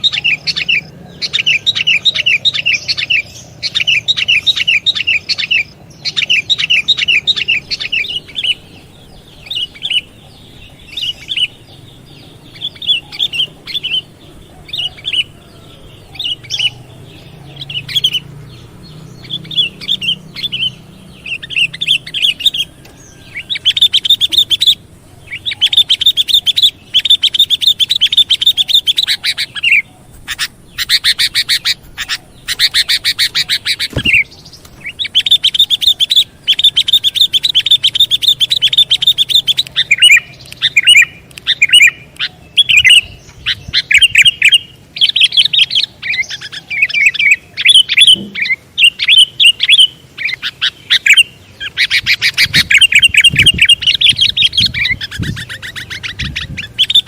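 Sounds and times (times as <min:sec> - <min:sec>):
bird chattering calls: 0:00.0 - 0:57.0.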